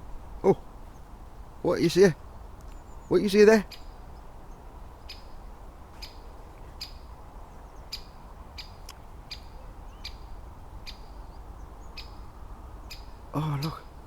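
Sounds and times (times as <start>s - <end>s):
small bird ticking calls: 2.6s - 14.0s.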